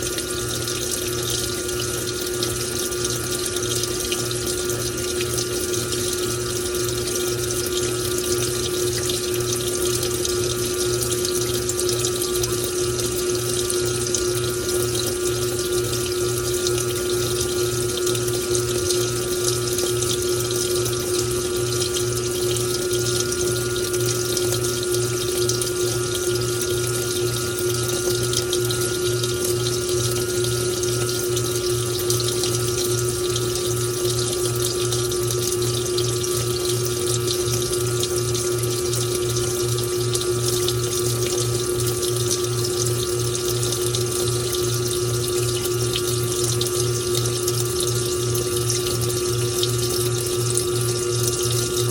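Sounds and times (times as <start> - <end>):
pump humming: 0.0 - 51.9
running water rushing: 0.0 - 51.9.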